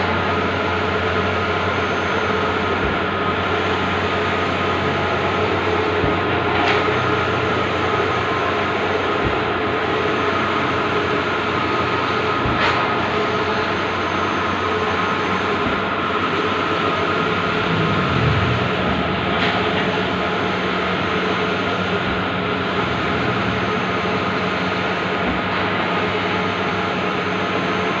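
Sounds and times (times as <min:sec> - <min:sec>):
large printer running: 0:00.0 - 0:28.0.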